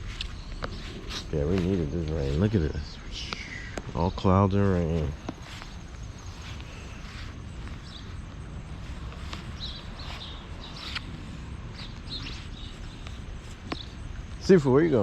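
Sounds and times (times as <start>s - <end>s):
bird chirps: 0.0s - 4.2s, 5.5s - 15.0s
steady low rumble: 0.0s - 15.0s.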